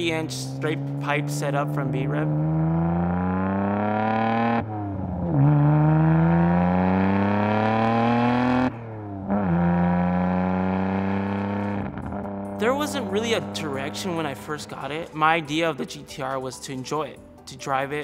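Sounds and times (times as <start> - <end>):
car engine revving through gears: 0.0 - 14.7.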